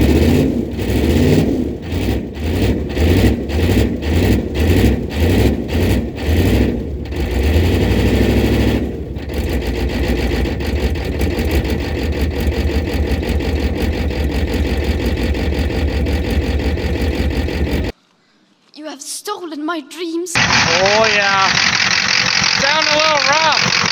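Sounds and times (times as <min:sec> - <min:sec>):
diesel engine clattering: 0:00.0 - 0:17.9, 0:20.4 - 0:23.9.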